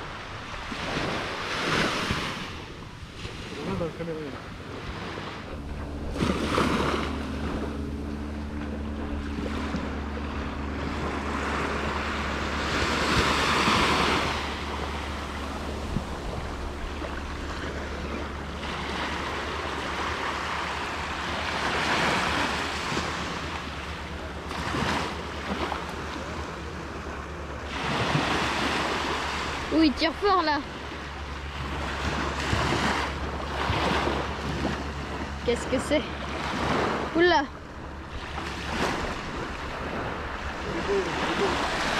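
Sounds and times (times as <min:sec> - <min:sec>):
surf breaking on beach: 0:00.0 - 0:30.8, 0:38.2 - 0:41.9
wind on microphone: 0:00.0 - 0:41.9.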